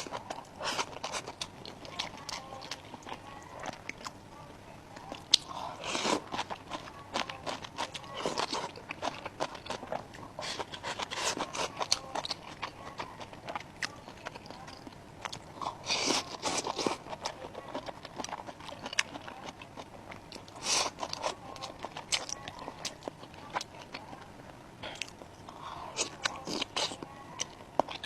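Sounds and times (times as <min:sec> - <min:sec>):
person chewing food with crunch: 0:00.0 - 0:04.2, 0:05.0 - 0:28.0.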